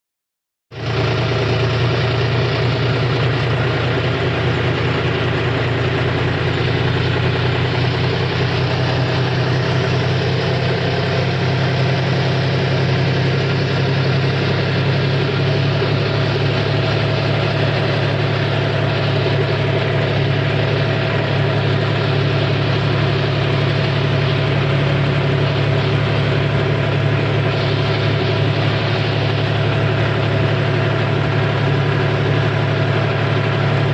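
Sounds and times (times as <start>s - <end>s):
tractor diesel engine running: 0.7s - 33.9s.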